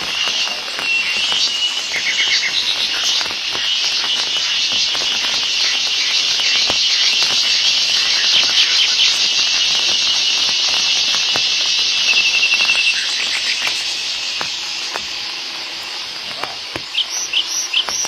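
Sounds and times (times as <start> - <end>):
high-pitched insect buzzing: 0.0 - 18.0.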